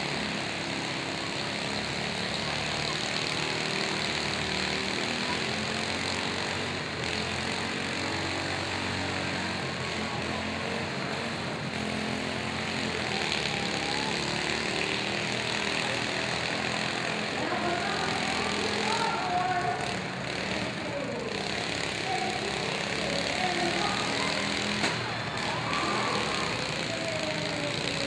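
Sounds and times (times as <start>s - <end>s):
riding lawn mower engines revving: 0.0s - 28.0s.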